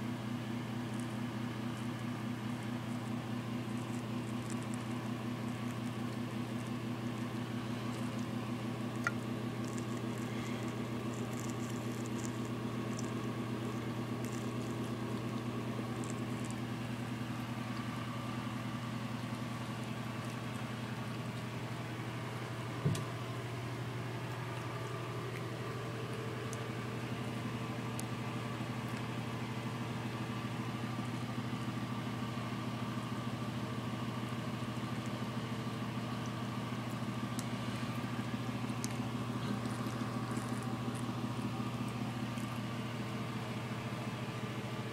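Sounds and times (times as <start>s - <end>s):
low machine hum: 0.0s - 44.9s.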